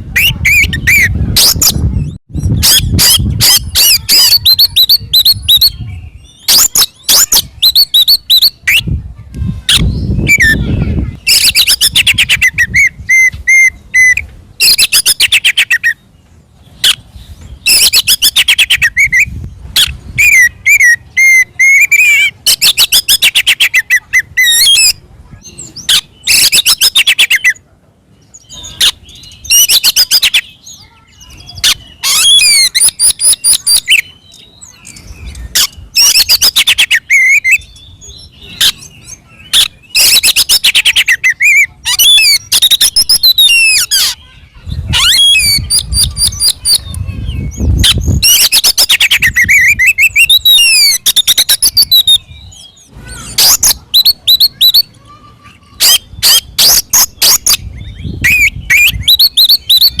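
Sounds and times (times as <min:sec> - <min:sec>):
bird singing: 0:09.7 - 1:00.0.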